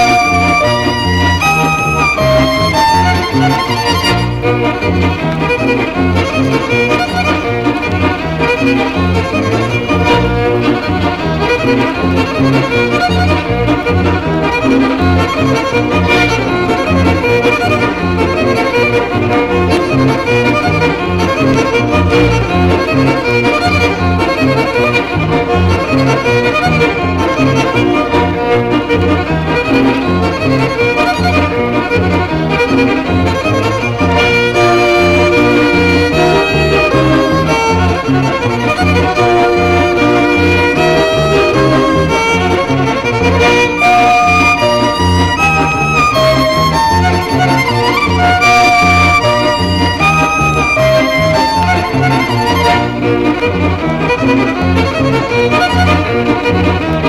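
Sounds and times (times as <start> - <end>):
bass line: 0.0 - 57.0
fiddle playing fast melody: 0.0 - 57.0.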